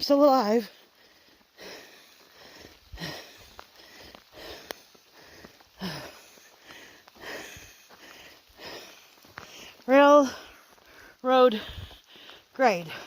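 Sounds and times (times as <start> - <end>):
person breathing heavily: 0.7 - 13.0.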